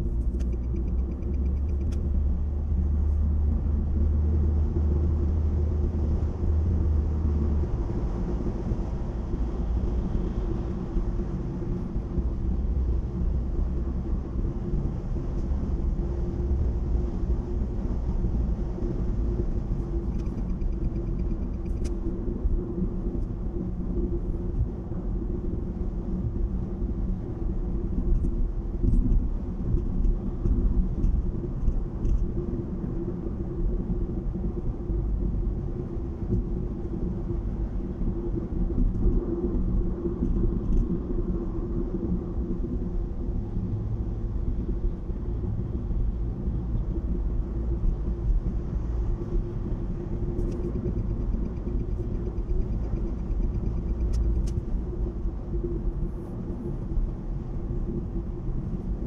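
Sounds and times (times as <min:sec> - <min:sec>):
car driving heard from inside: 0:00.0 - 0:59.0.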